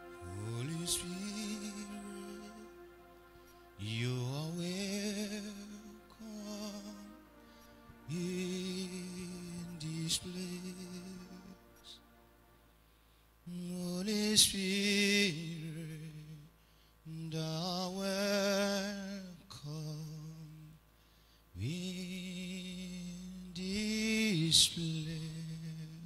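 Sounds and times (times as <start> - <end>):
man singing slow worship song: 0.0 - 12.2, 13.4 - 26.0.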